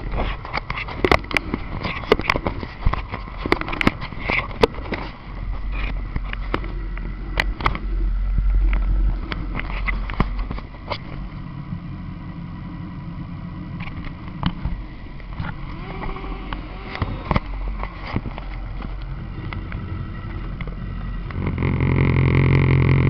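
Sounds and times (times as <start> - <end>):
motorcycle engines idling: 0.0 - 23.0.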